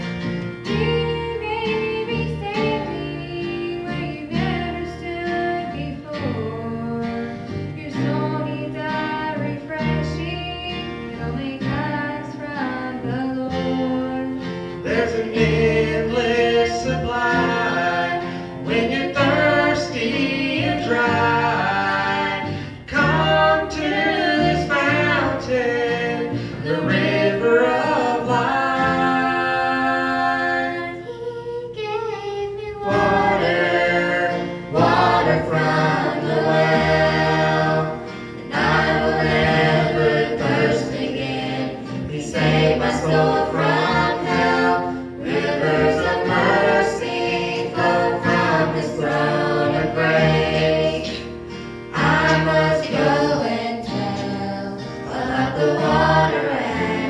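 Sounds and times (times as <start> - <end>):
gospel song in harmony: 0.0 - 57.0.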